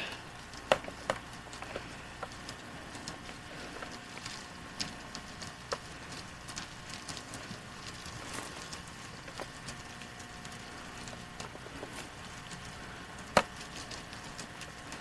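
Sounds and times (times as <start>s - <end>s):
footsteps through dry brush: 1.8s - 14.3s.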